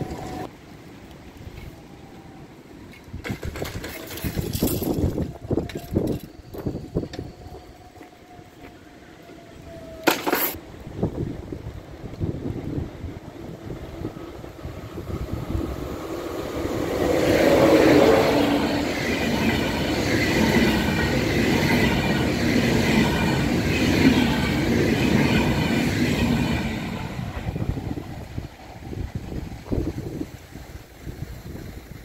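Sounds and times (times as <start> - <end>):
high-speed train passing: 0.0 - 32.0.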